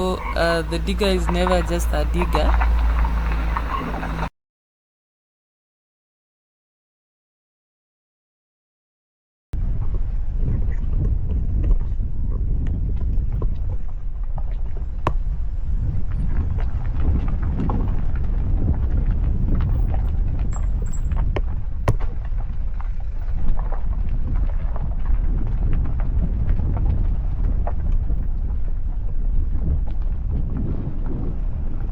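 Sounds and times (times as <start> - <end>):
vehicle engine and road rumble: 0.0 - 4.3, 9.6 - 31.9.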